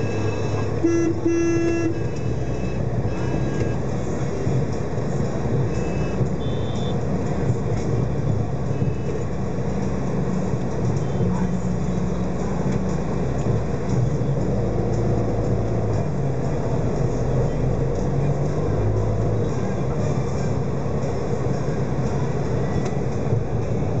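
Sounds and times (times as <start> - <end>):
motorcycle and car engines: 0.0 - 24.0
road noise: 0.0 - 24.0.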